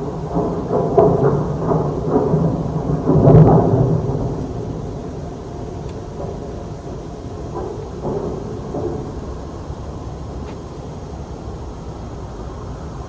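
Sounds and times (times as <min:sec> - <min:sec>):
deep groaning rumble: 0:00.0 - 0:13.0.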